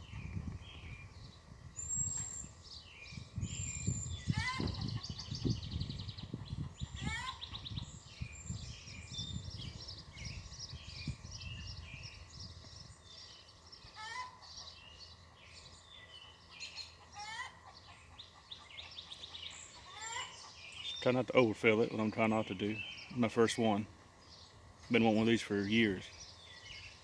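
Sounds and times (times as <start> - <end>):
birds chirping and singing: 0.0 - 27.0.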